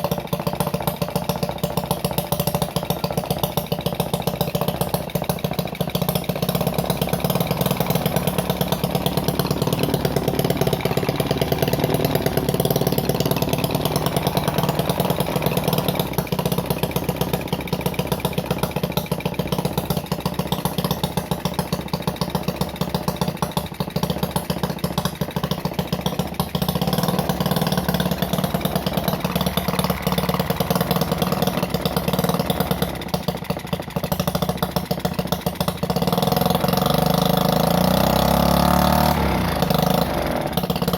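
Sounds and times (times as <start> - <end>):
small engine running fast: 0.0 - 40.9.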